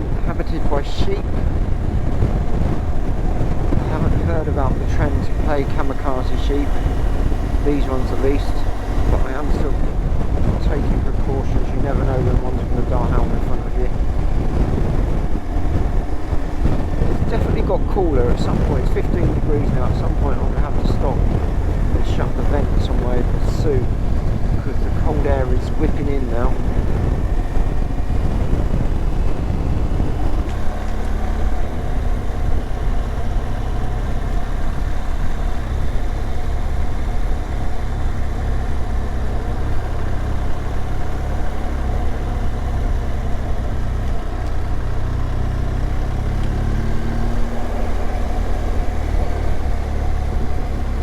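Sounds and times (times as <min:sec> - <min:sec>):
motorcycle engine running: 0:00.0 - 0:51.0
wind rush: 0:00.0 - 0:51.0.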